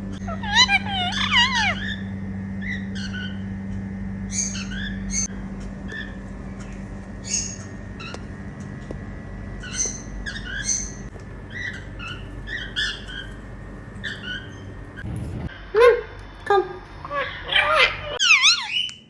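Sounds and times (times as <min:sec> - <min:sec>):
parakeets squawking and chirping: 0:00.0 - 0:08.3, 0:09.6 - 0:15.6, 0:17.0 - 0:19.0.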